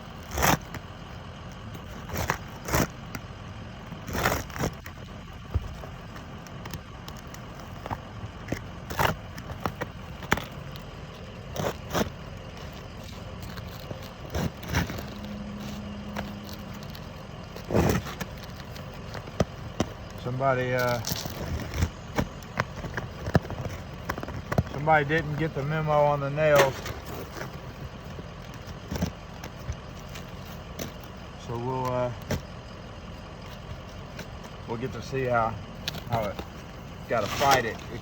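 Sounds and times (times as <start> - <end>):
scraping and crackling: 0.0 - 38.0.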